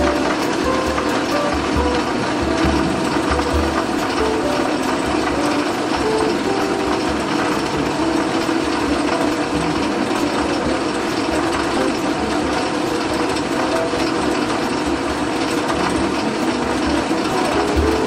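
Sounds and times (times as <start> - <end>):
band saw cutting metal: 0.0 - 18.0.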